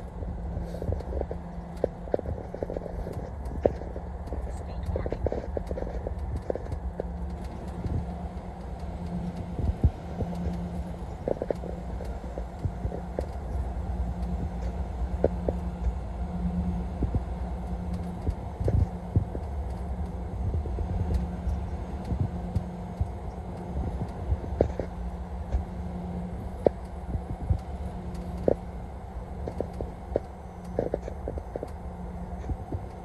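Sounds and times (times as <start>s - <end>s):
vehicle engine and tyre rumble: 0.0s - 33.0s.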